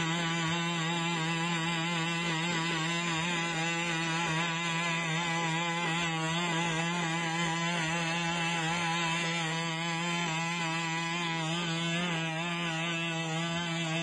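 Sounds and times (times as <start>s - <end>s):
robot engine buzzing: 0.0s - 14.0s.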